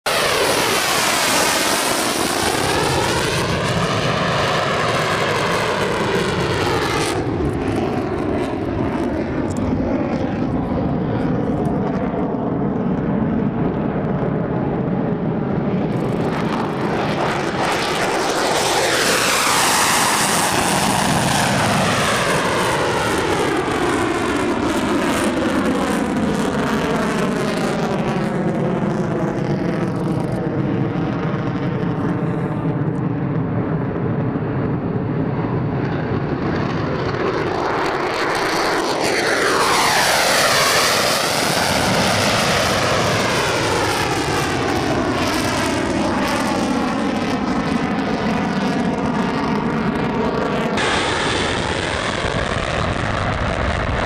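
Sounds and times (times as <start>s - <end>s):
jet engines roaring: 0.0s - 54.0s
jet passing by: 0.1s - 54.0s.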